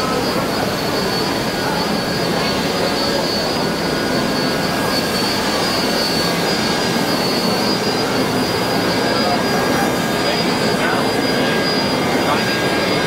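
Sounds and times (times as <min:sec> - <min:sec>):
thin high tone: 0:00.0 - 0:13.0.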